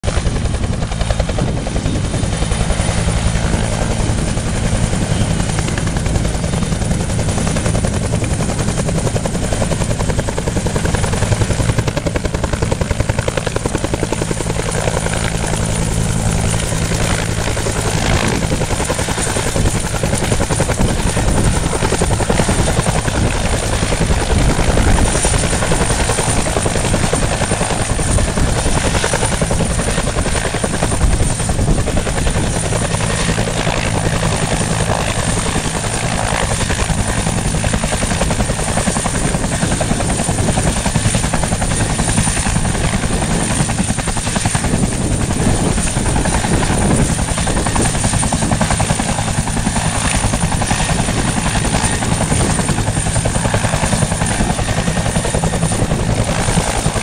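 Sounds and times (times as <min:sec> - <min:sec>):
helicopter rotor beat: 0:00.0 - 0:57.0.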